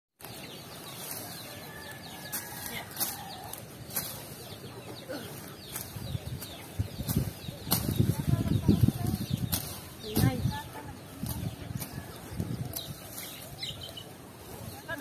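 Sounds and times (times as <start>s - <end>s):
birds chirping: 0.2s - 15.0s.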